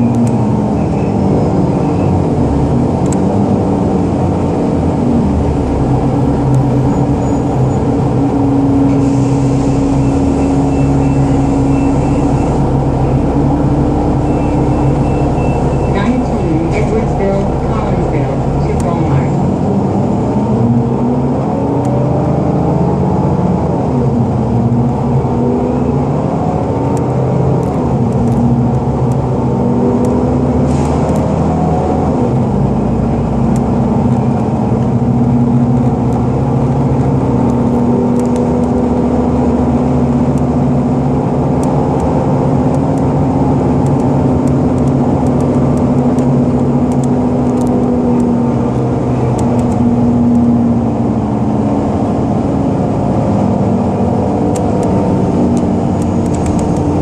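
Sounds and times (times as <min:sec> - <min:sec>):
bus engine running: 0:00.0 - 0:57.0
road noise: 0:00.0 - 0:57.0.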